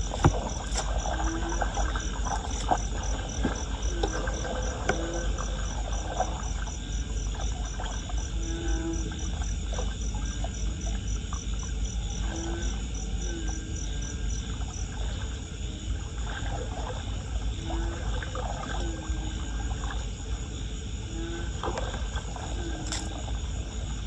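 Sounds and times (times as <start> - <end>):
floodwater gurgling into drain: 0.0 - 24.0.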